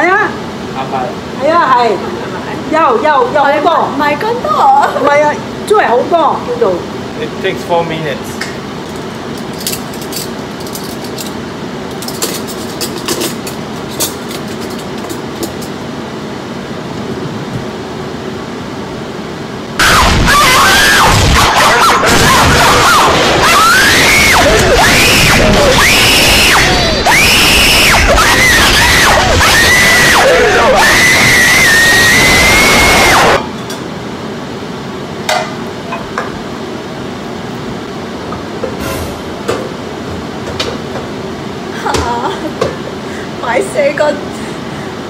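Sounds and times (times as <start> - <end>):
steady noisy hum: 0.0 - 45.0.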